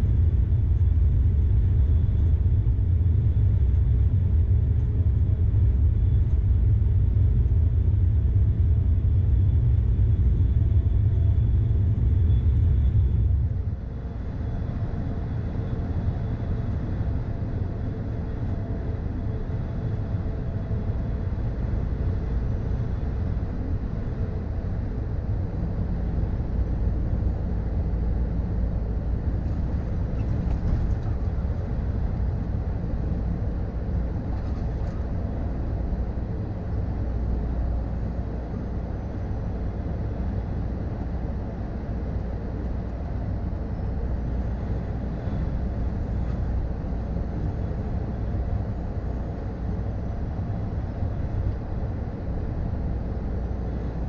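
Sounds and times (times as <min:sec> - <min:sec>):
truck engine rumble in cab: 0:00.0 - 0:54.0.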